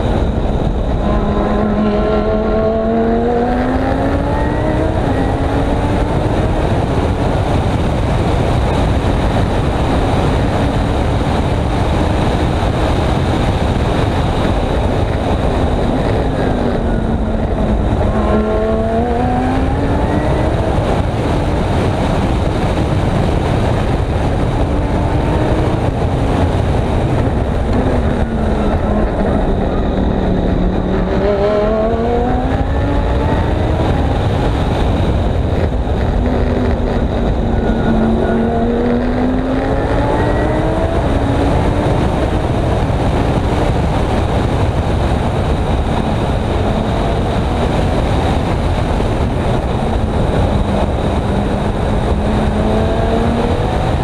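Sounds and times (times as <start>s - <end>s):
race car engine revving: 0.0s - 54.0s
wind and road noise: 0.0s - 54.0s.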